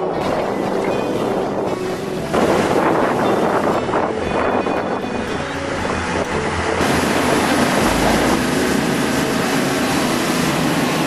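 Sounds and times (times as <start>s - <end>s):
boat engine running: 0.0s - 11.0s
water rushing: 0.0s - 11.0s
wind: 0.0s - 11.0s.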